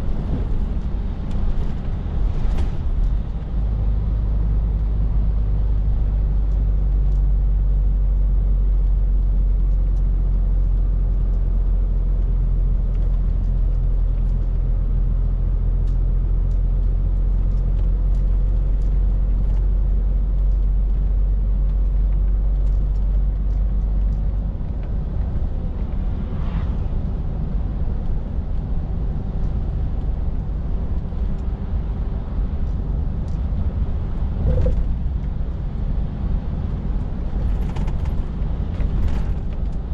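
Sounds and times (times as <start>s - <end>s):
tyre and road rumble: 0.0s - 39.9s.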